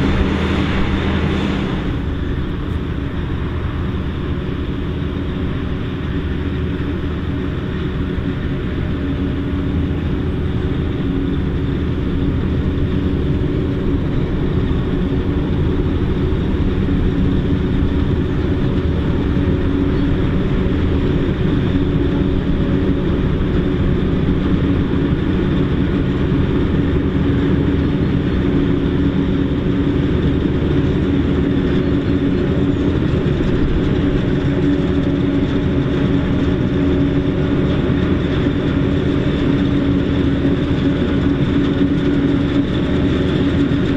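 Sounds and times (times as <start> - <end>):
forage harvester droning: 0.0 - 43.9
tractor engine: 0.0 - 43.9.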